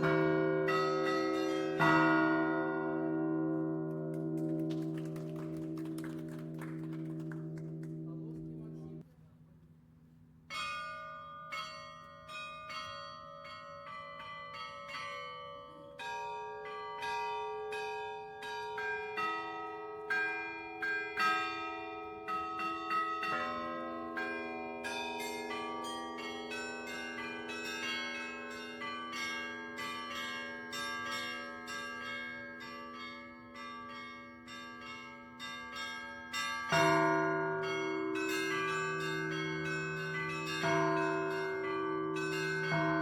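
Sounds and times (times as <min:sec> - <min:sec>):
church bells ringing: 0:00.0 - 0:09.0, 0:10.5 - 0:43.0.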